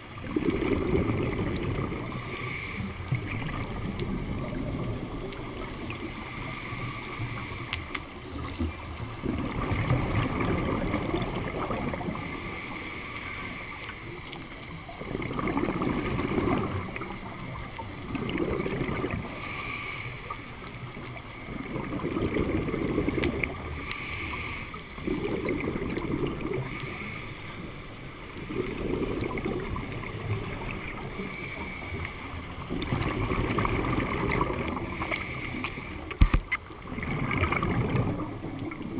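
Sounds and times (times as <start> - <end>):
faint hum: 0.0 - 38.9
underwater exhaled bubbles: 0.0 - 38.9.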